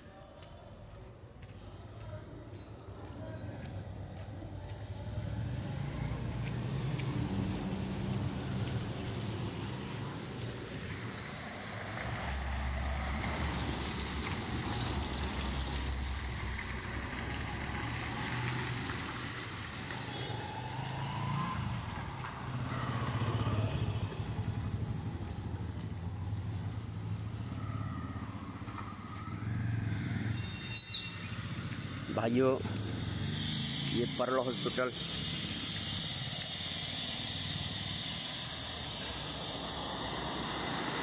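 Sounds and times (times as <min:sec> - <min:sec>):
car engines passing: 0:01.4 - 0:41.0
motorcycle engines passing: 0:02.9 - 0:41.0.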